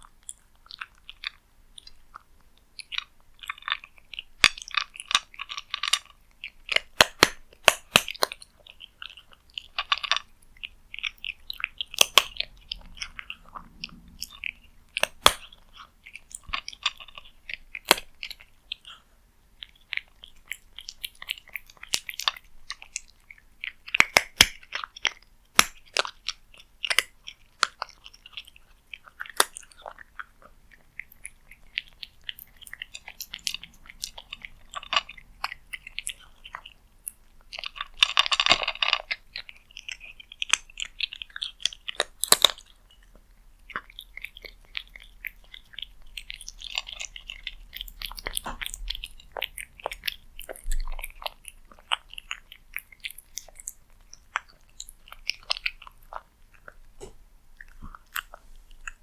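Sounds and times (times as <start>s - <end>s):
cat chewing food: 0.0s - 59.0s.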